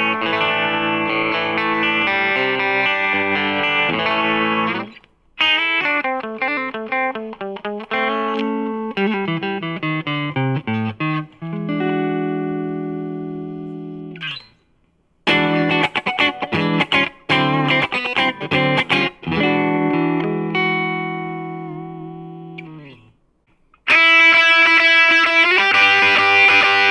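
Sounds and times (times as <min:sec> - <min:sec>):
guitar chord ringing: 0:00.0 - 0:14.6, 0:15.3 - 0:23.1, 0:23.9 - 0:26.9.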